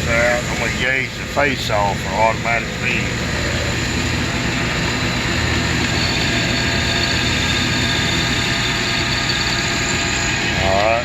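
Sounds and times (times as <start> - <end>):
lathe tool cutting: 0.0 - 11.0
lathe whirring: 0.0 - 11.0.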